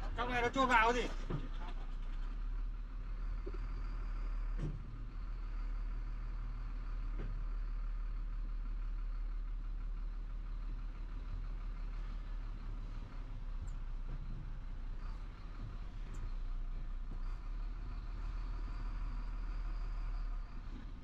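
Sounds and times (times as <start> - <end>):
diesel engine running at low revs: 0.0 - 21.0.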